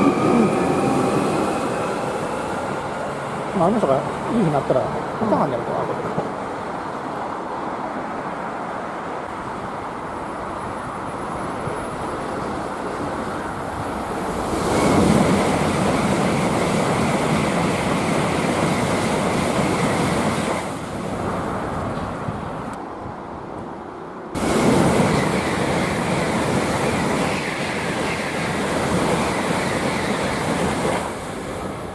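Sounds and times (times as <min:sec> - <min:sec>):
train rushing past: 0:00.0 - 0:31.9.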